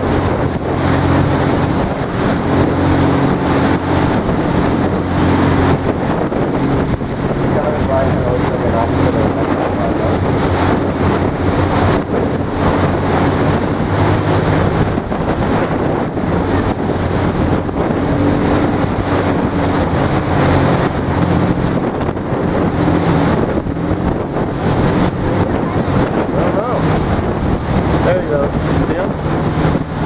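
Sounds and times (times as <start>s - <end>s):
churning sea water: 0.0s - 30.0s
low engine hum: 0.0s - 30.0s
wind buffeting microphone: 0.0s - 30.0s.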